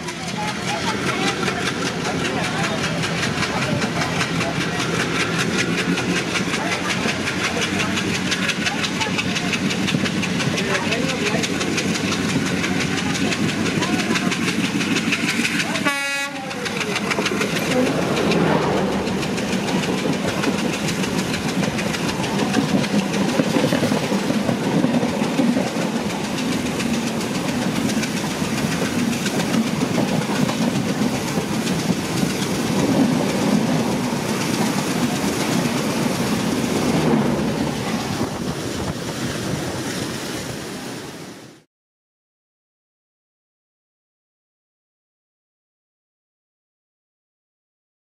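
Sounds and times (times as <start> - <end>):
wheels clattering over rail joints: 0.0 - 40.1
train passing with rumble: 0.0 - 41.6.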